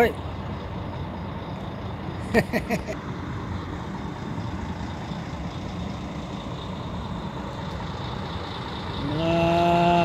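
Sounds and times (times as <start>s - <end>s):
bus engines idling: 0.0s - 10.0s.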